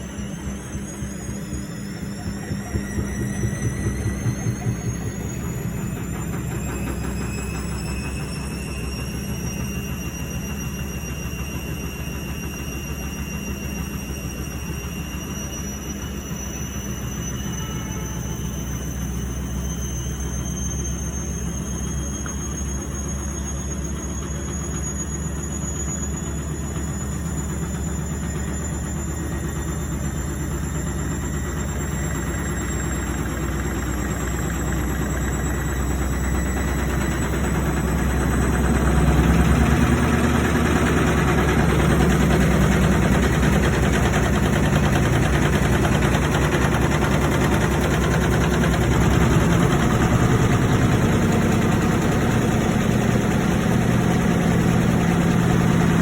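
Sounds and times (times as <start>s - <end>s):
washing machine humming and whining: 0.0s - 56.0s.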